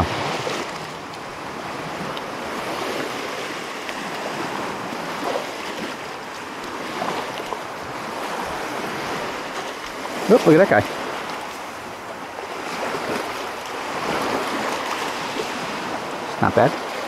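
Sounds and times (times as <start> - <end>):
small waves lapping on sand: 0.0 - 17.0.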